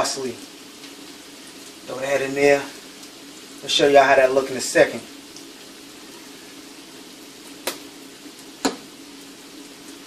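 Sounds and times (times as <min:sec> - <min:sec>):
butter sizzling in a pan: 0:00.0 - 0:10.0
faint steady hum: 0:00.0 - 0:10.0.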